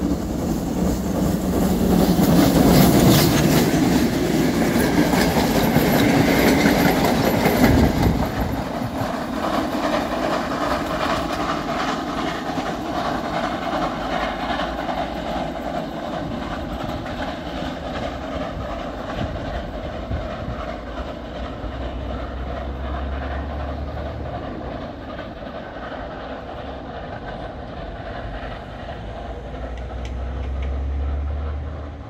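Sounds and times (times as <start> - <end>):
steam train rumbling along track: 0.0 - 32.0.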